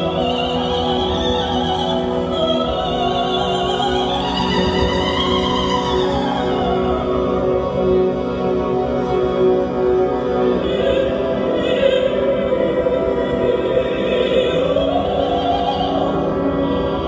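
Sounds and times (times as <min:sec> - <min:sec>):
operatic singing: 0:00.0 - 0:17.0
orchestral music: 0:00.0 - 0:17.0.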